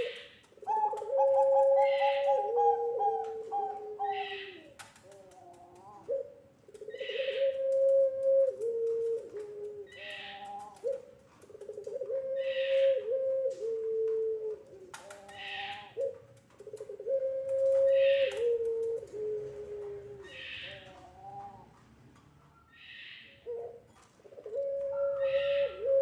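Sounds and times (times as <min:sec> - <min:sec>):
doves cooing: 0:00.0 - 0:21.9, 0:22.7 - 0:26.0.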